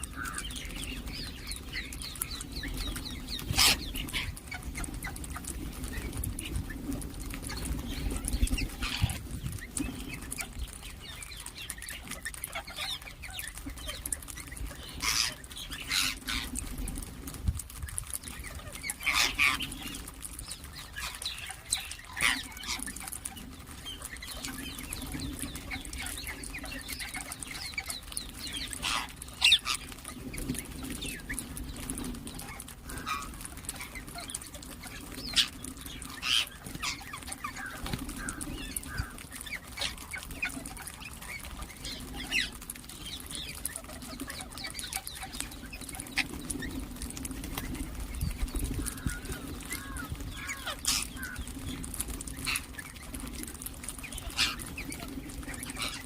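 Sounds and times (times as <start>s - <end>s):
parrots calling and chirping: 0.0s - 56.0s.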